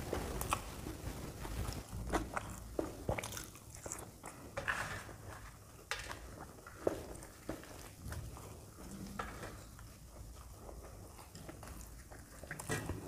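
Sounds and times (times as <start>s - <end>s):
close chewing and crunching: 0.0s - 13.0s.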